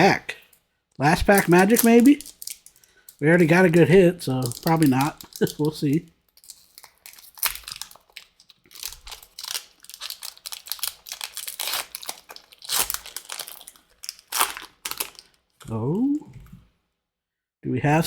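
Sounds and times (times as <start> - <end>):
wrapper tearing and crinkling: 1.1 - 15.7.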